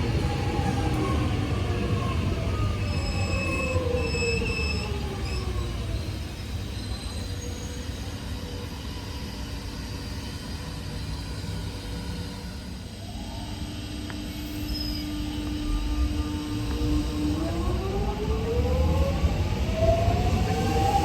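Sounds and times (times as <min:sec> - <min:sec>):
electric train whine: 0:00.0 - 0:21.0.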